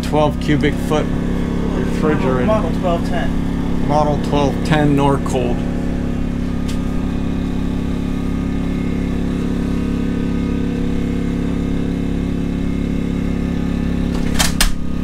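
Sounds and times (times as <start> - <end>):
generator idling: 0.0 - 15.0.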